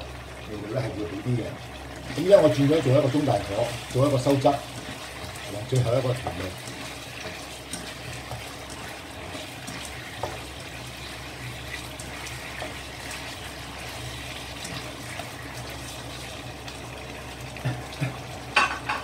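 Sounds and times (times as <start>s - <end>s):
sauce bubbling and sizzling in a wok: 0.0s - 19.0s
spatula stirring and tapping pan: 2.0s - 19.0s.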